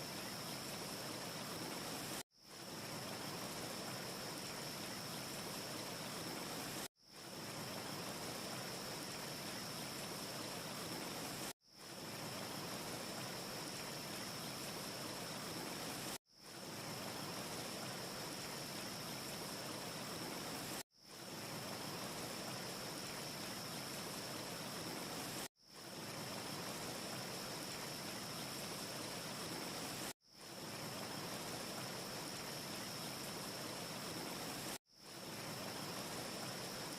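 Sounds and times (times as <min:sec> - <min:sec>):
wind-like rushing hiss: 0:00.0 - 0:36.9.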